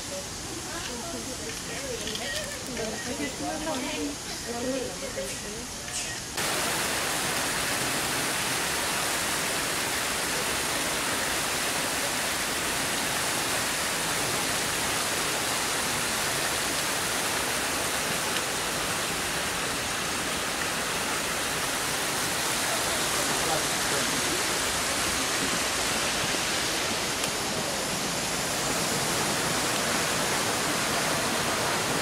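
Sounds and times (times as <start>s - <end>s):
water rushing over rocks: 6.4s - 32.0s.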